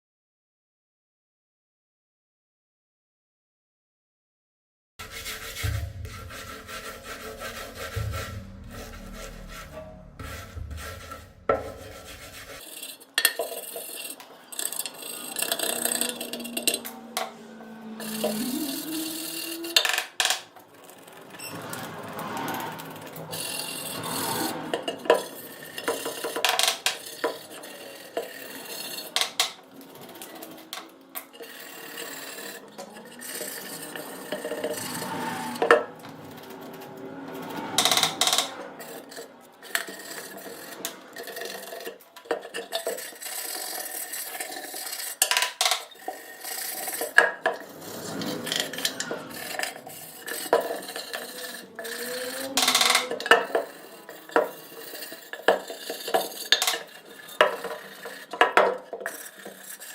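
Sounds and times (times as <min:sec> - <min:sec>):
filing metal: 0:05.0 - 0:20.0, 0:22.5 - 0:36.8, 0:37.8 - 0:59.9.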